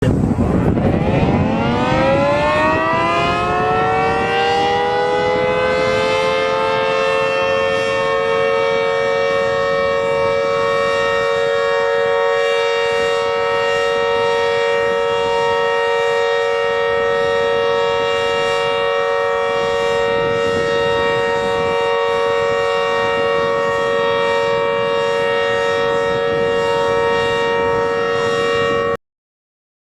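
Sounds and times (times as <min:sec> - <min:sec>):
emergency warning siren: 0:00.0 - 0:29.0.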